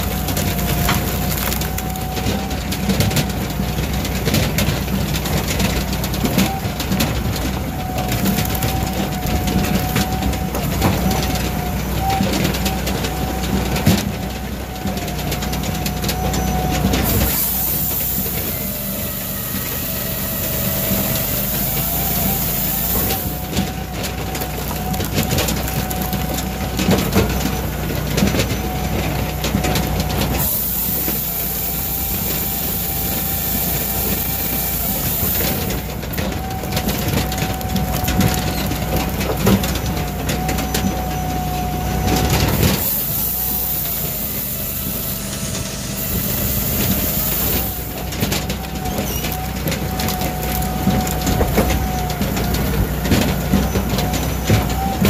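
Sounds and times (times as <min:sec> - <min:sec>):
saw cutting through log: 0:00.0 - 0:14.1, 0:14.8 - 0:55.0
engine hum: 0:00.0 - 0:55.0
hydraulic whine: 0:00.0 - 0:55.0.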